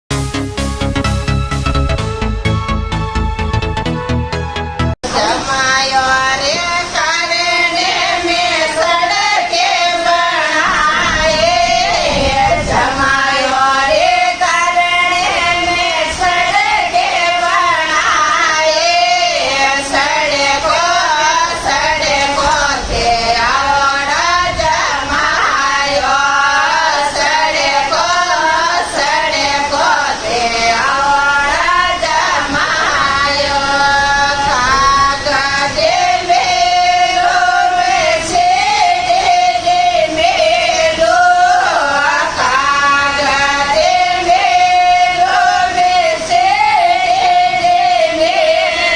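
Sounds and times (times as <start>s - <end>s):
woman singing: 5.0s - 48.9s.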